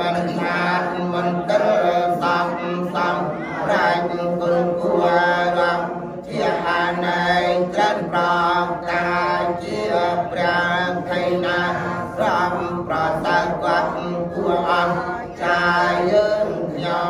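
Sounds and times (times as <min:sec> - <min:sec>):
monks chanting together: 0:00.0 - 0:17.0.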